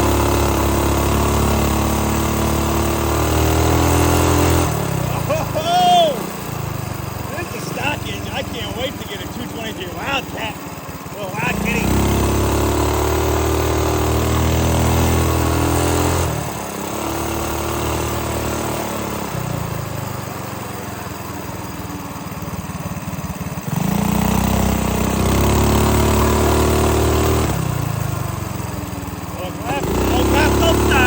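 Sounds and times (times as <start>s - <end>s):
minibike engine revving: 0.0s - 31.0s.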